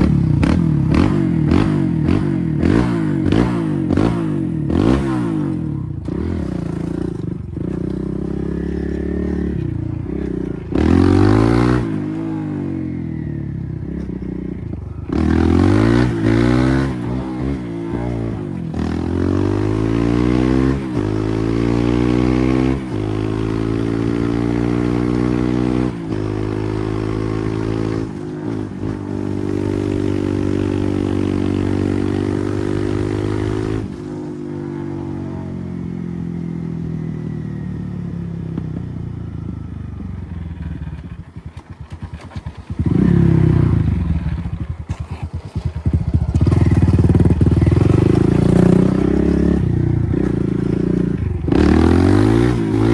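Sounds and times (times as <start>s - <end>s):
dirt bike engine revving: 0.0s - 35.8s, 40.5s - 52.9s.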